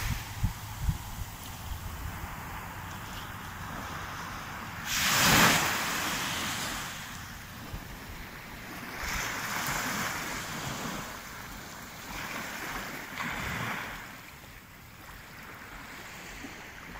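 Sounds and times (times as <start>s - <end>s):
small waves washing on sand: 0.0s - 16.9s.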